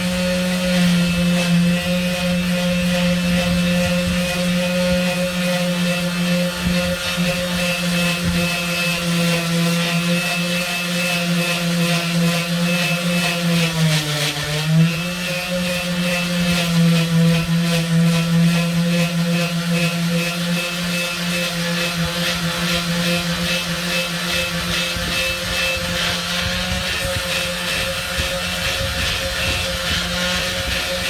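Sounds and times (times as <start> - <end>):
abrasive rubbing on metal panel: 0.0 - 31.0
electric sander motor hum: 0.0 - 31.0.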